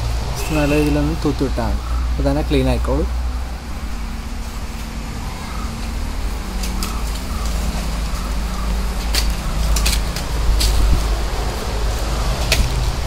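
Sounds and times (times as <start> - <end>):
steady low rumble: 1.2 - 13.0.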